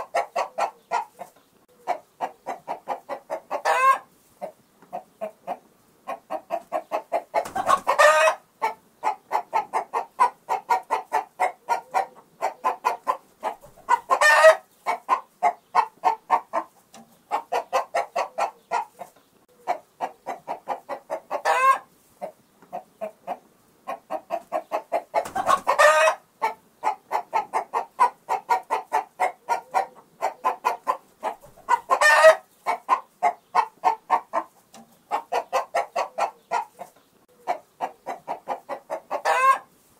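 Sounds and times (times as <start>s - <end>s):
chicken squawk: 0.0s - 16.7s, 17.3s - 21.9s, 22.7s - 39.7s
chickens clucking: 0.0s - 39.9s.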